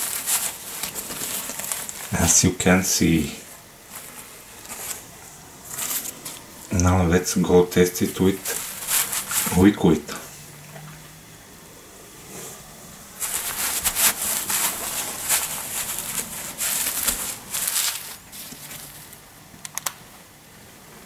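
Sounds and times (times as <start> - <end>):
nappy rustling and crinkling: 0.0 - 10.8, 12.5 - 19.3.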